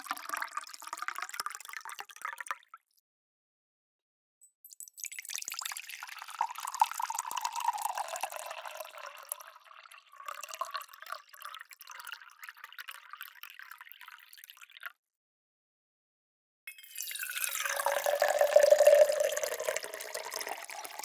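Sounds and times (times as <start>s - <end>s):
water pouring into a cup: 0.0s - 2.7s, 4.8s - 14.9s, 16.7s - 21.0s.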